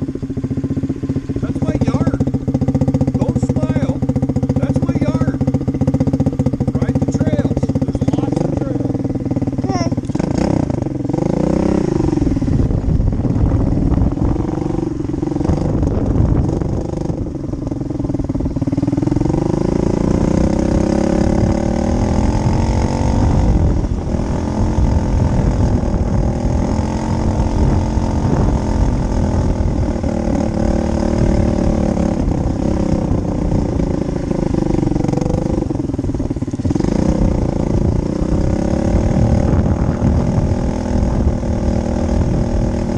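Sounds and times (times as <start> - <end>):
low rumble: 0.0 - 42.9
small motorcycle engine revving: 0.0 - 42.9.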